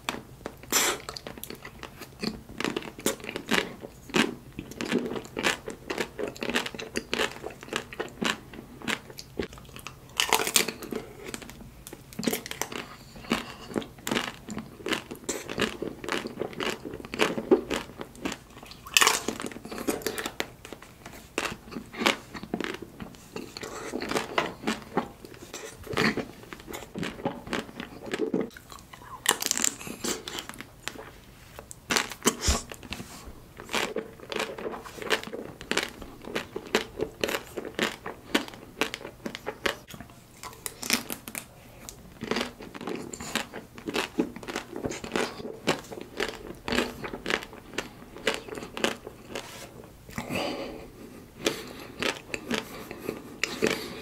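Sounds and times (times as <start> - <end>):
chewing: 0.0 - 54.0
chocolate shell crunching: 1.0 - 31.1, 33.6 - 49.4.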